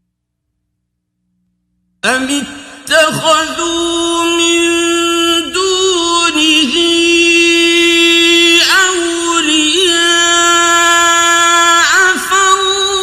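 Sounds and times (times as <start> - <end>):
man chanting recitation: 2.0 - 13.0.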